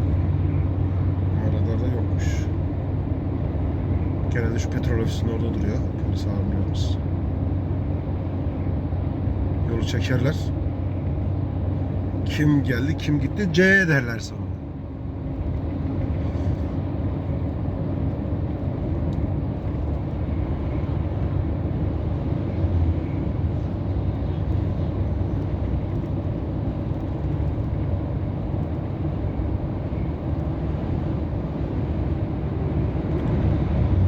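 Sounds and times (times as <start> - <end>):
truck engine and road rumble: 0.0 - 34.0.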